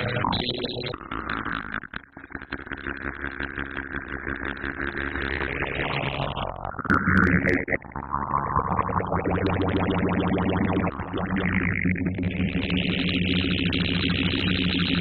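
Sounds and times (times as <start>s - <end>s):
sputtering fart sounds: 0.0s - 15.0s.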